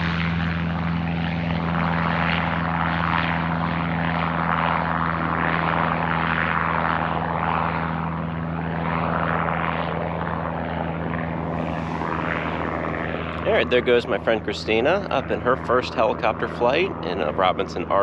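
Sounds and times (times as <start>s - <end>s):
helicopter engine hum: 0.0s - 18.0s
rushing rotor noise: 0.0s - 18.0s.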